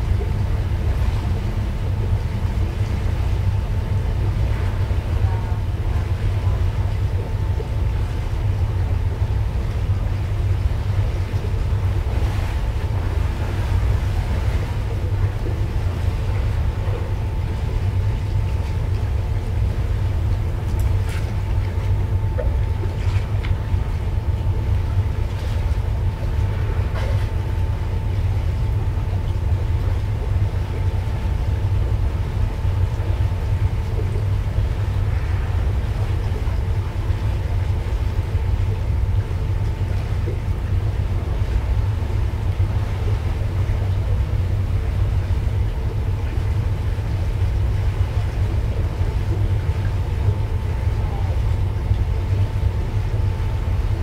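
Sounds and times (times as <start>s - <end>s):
faint steady whine: 0.0s - 54.0s
ship engines rumbling: 0.0s - 54.0s.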